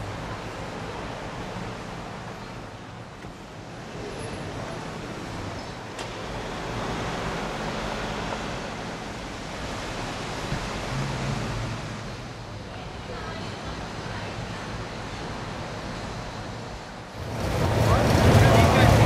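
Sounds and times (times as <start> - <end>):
traffic rushing: 0.0 - 19.0.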